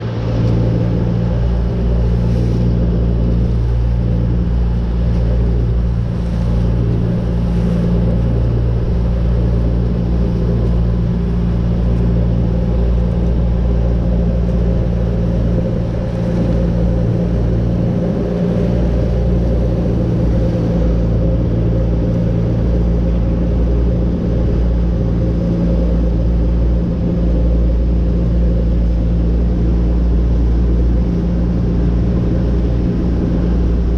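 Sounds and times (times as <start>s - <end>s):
motorboat engine humming: 0.0s - 33.9s
rushing water noise: 0.0s - 33.9s.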